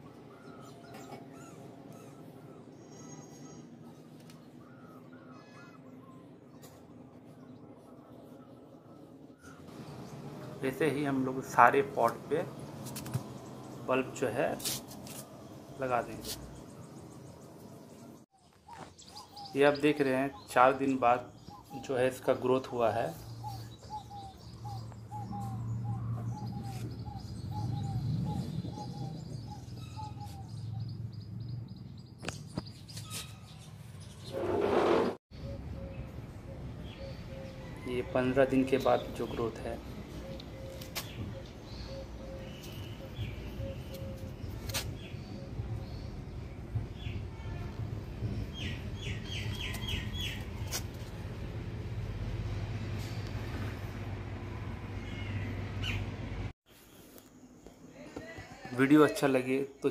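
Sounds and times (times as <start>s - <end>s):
bird chirping: 0.0s - 34.4s, 35.3s - 47.6s, 48.2s - 50.8s.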